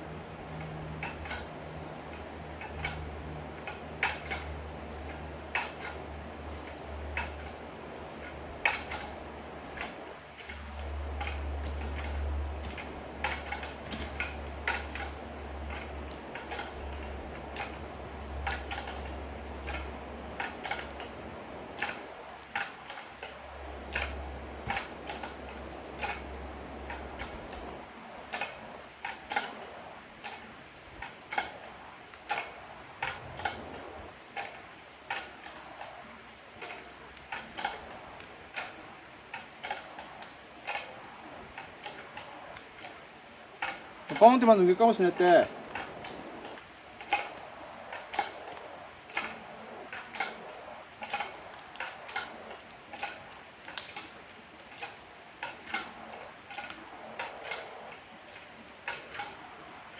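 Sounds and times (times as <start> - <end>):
sharp metallic ticks and knocks: 0.1 - 59.8.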